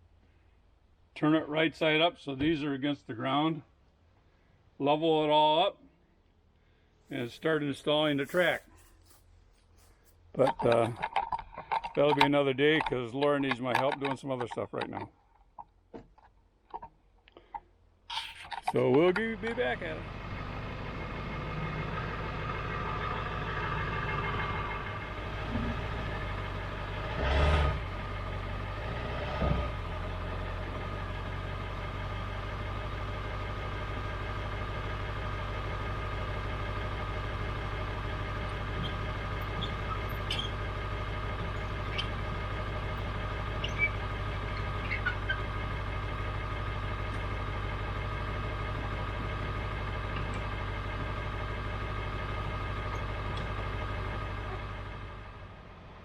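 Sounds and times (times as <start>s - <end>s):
engine idling: 6.4s - 56.0s.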